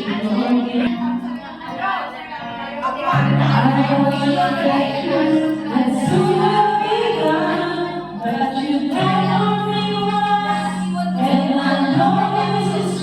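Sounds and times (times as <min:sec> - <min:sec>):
group singing worship song: 0:00.0 - 0:13.0.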